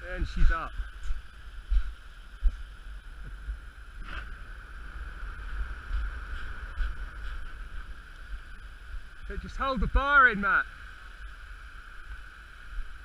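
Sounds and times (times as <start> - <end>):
faint steady hiss: 0.0 - 13.0
wind buffeting microphone: 0.0 - 13.0.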